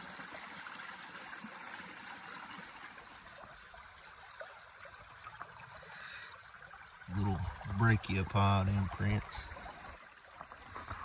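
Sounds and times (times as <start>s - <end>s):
creek water trickling over rocks: 0.0s - 11.0s.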